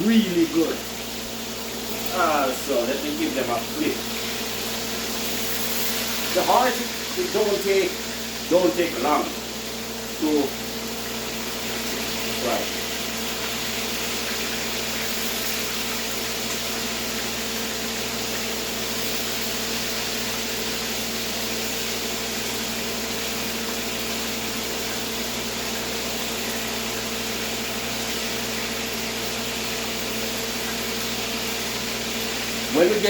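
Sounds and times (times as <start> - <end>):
low electrical hum: 0.0 - 33.0
meat sizzling in oil: 0.0 - 33.0.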